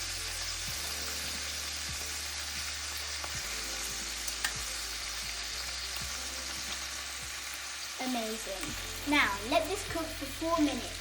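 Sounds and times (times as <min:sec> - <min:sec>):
chicken sizzling in hot oil: 0:00.0 - 0:11.0
small crackles of frying: 0:00.0 - 0:11.0.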